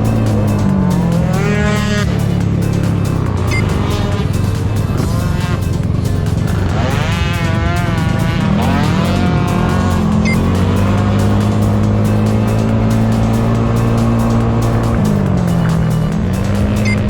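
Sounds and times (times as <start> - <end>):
background music with steady beat: 0.0 - 17.0
scooter engine revving: 0.0 - 17.0.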